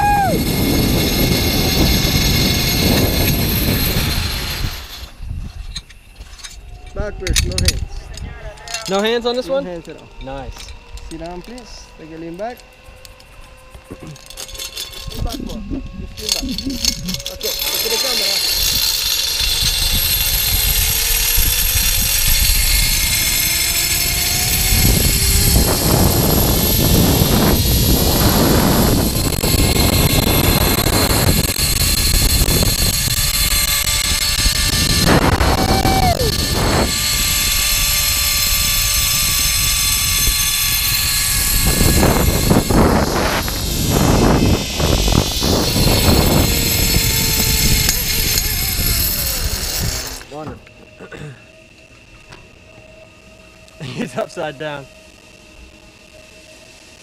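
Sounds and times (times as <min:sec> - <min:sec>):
wind over microphone: 0:00.0 - 0:12.5, 0:13.3 - 0:50.6
zip-line pulleys whining: 0:00.0 - 0:57.0.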